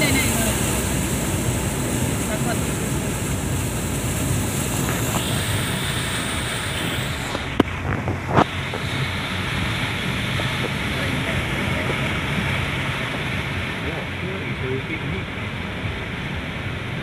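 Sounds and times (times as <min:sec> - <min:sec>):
vehicle engine running: 0:00.0 - 0:17.0
water rushing and sloshing: 0:00.0 - 0:17.0.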